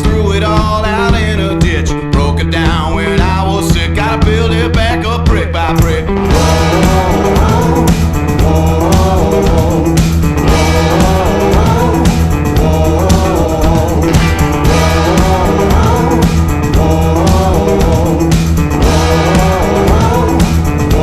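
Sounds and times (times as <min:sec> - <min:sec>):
song with guitar and singing: 0:00.0 - 0:21.0.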